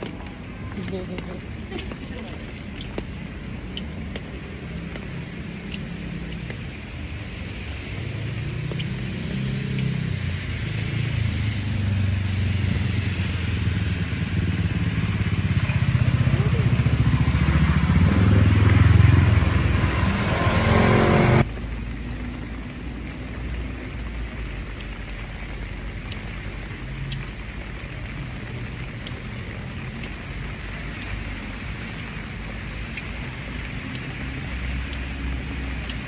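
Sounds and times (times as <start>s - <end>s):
rain hissing: 0.0s - 36.0s
vehicle engine hum: 0.0s - 36.0s.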